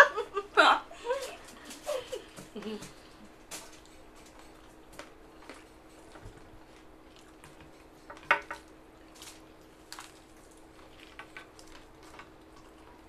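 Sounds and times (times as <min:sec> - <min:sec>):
faint steady hum: 0:00.0 - 0:13.0
people eating with hands: 0:01.0 - 0:13.0.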